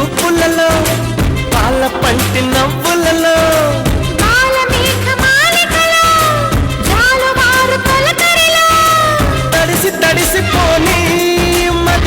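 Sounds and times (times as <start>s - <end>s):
recorded song with low beat: 0.0s - 12.0s.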